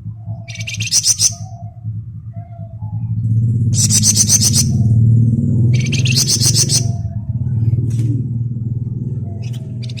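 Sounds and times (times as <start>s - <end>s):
songbird chirping trill: 0.0s - 7.6s, 8.6s - 10.0s
low mechanical hum: 0.0s - 10.0s.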